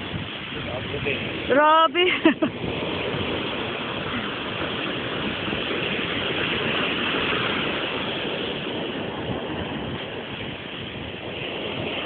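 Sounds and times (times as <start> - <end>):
small waves breaking on sand: 0.0 - 12.0
wind on microphone: 0.0 - 12.0.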